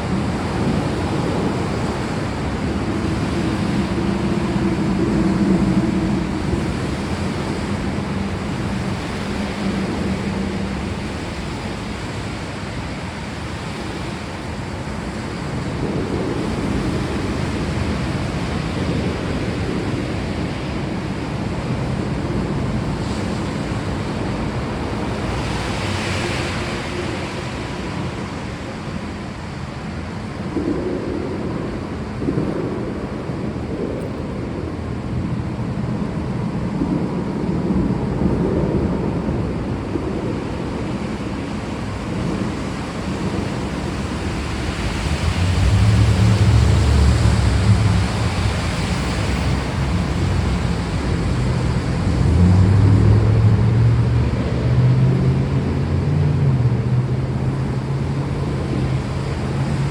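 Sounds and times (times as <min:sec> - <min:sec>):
heavy rain: 0:00.0 - 0:59.9
low rolling thunder: 0:00.0 - 0:59.9.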